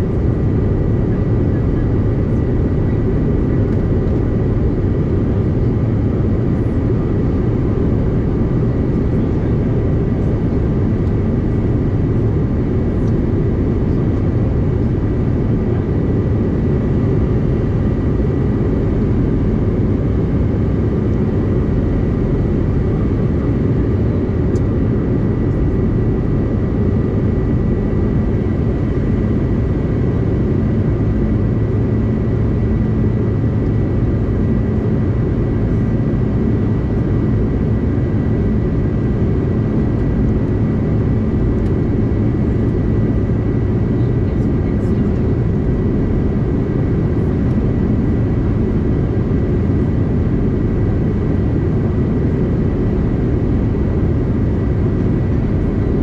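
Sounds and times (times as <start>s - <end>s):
jet cabin airflow and engine rush: 0.0s - 56.0s.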